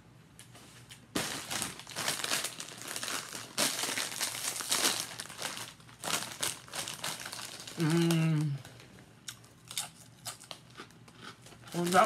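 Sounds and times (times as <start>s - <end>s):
chip bag crinkling: 0.8s - 12.0s.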